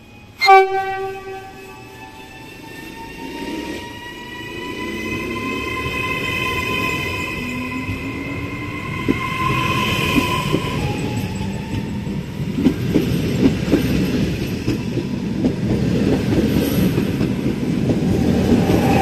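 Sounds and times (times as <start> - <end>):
electric train rumble: 0.0 - 19.0
high train whine: 0.0 - 19.0.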